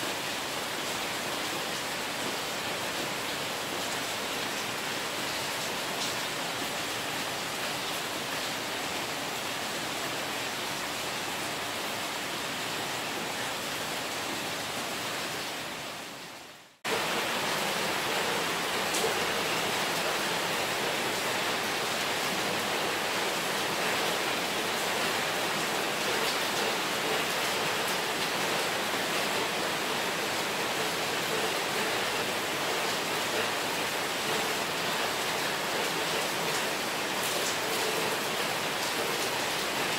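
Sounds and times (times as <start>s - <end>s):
heavy rain on roofs: 0.0s - 39.9s.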